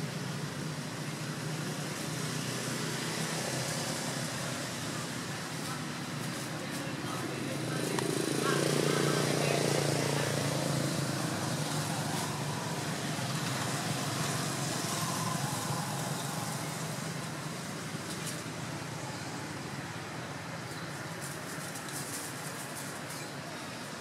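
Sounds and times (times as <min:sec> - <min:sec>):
passing motor vehicle rush: 0:00.0 - 0:24.0.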